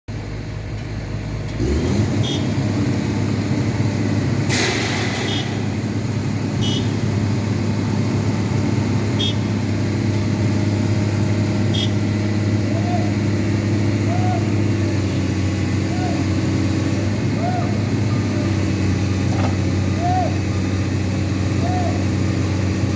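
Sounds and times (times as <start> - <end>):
truck engine running: 0.1 - 22.9.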